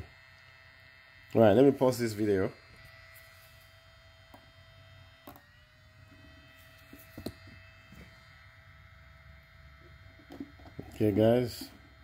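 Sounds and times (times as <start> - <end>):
spot welder electrical hum: 0.0 - 12.0.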